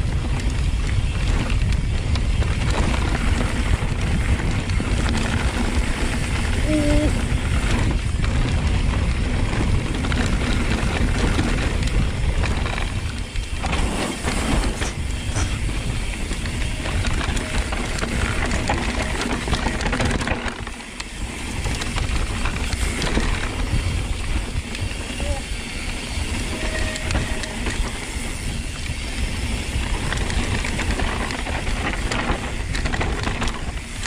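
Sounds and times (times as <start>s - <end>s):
bike rattling clatter: 0.0s - 34.0s
bike rolling rumble: 0.0s - 34.0s
wind rush: 0.0s - 34.0s.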